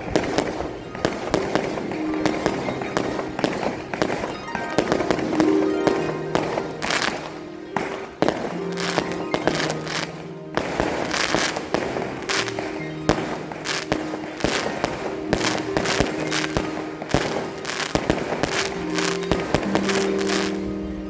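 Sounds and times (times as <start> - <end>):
fireworks banging: 0.0 - 20.8
music with long held notes: 0.0 - 21.0.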